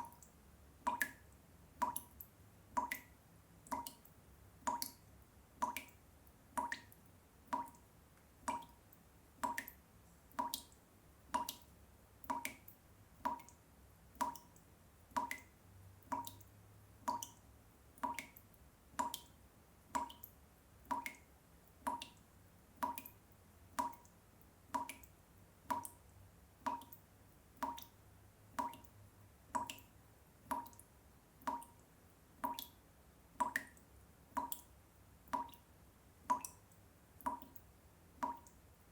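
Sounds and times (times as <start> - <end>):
water dripping from tap: 0.0 - 38.9.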